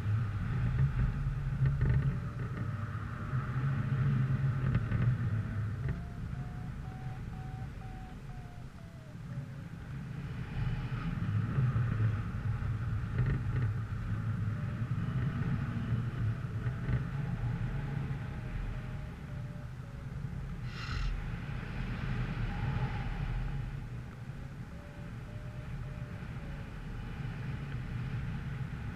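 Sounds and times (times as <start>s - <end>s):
motor vehicle rumbling: 0.0s - 28.9s
wind on microphone: 0.0s - 28.9s.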